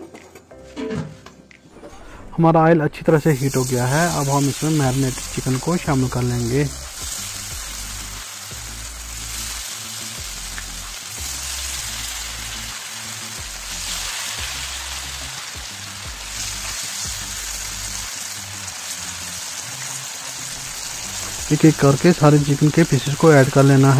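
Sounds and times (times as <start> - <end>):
background music with bass line: 0.1 - 23.9
chicken sizzling in hot oil: 3.2 - 23.9.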